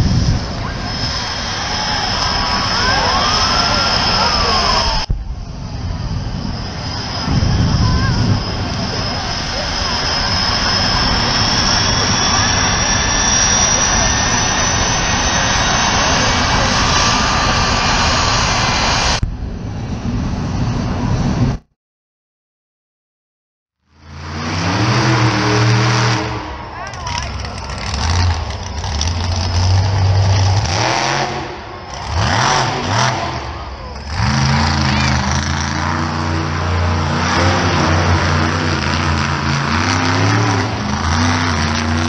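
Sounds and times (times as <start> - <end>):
jet engine roaring: 0.0 - 21.7, 23.9 - 42.0.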